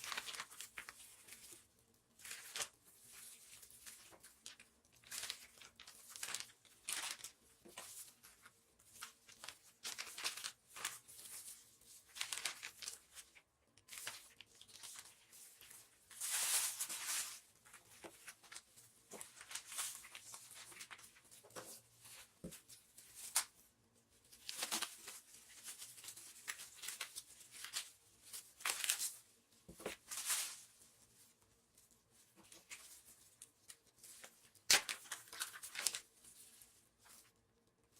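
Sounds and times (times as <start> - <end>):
plastic packaging crinkling and tearing: 0.0 - 21.1, 24.4 - 29.2, 32.6 - 37.2.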